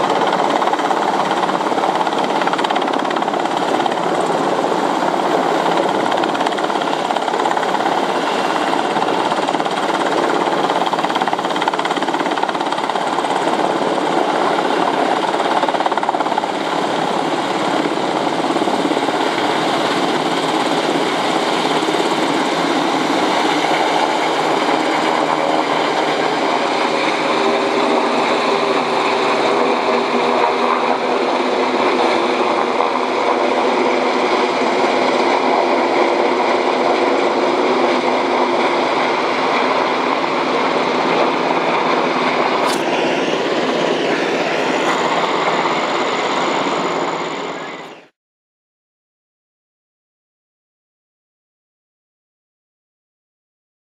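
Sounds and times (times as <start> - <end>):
helicopter engines running: 0.0 - 48.1
helicopter rotor beating: 0.0 - 48.2.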